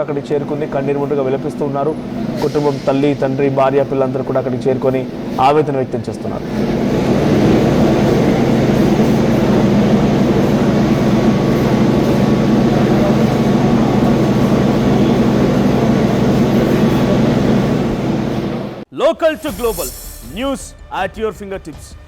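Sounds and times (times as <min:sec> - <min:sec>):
constant low hum: 0:00.0 - 0:18.8
machine rumbling: 0:00.0 - 0:18.8.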